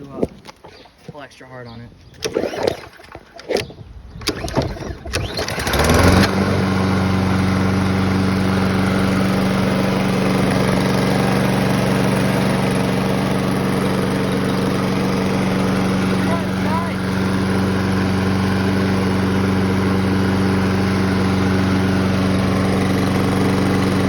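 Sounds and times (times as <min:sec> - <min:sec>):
lawn mower engine pull-started: 0:02.1 - 0:24.0.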